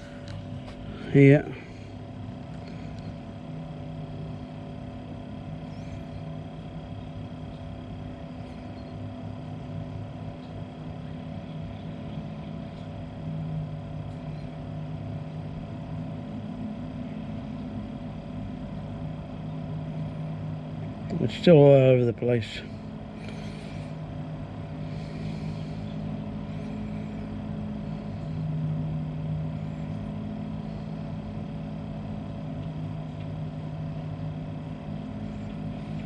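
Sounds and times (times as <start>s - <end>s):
compressor fridge humming: 0.0s - 36.0s.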